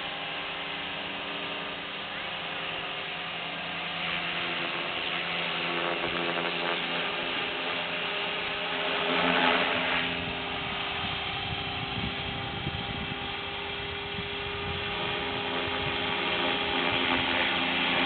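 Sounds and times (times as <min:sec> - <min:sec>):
rc helicopter motor whine: 0:00.0 - 0:18.0
rotor blades rushing: 0:00.0 - 0:18.0.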